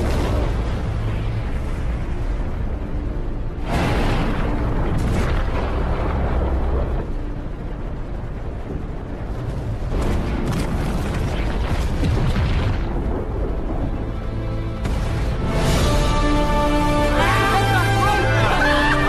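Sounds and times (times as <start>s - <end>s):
heavy explosions with deep rumble: 0.0s - 16.2s
film music score: 0.0s - 19.0s.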